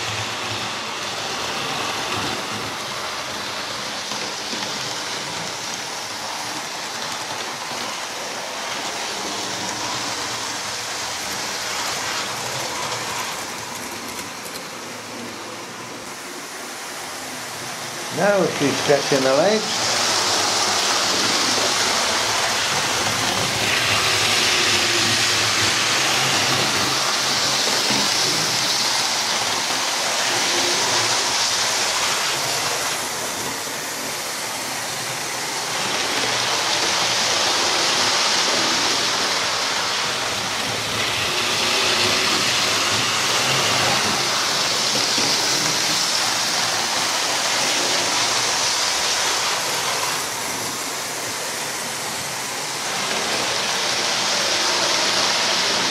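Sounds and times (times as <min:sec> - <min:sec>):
model train running on track: 0:00.0 - 0:55.9.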